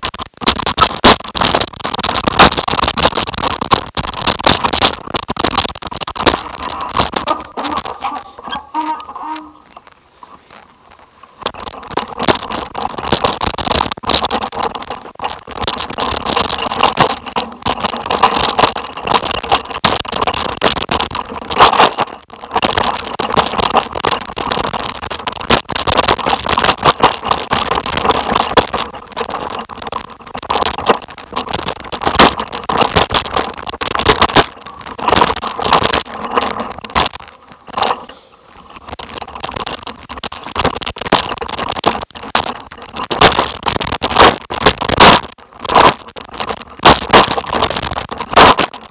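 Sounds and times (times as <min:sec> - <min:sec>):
tyres crunching over loose stones: 0:00.0 - 0:48.9.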